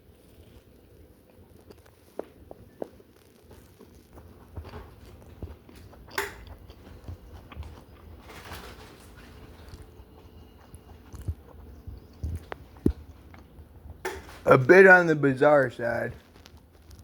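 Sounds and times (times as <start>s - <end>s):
person chewing food: 0.0s - 14.2s.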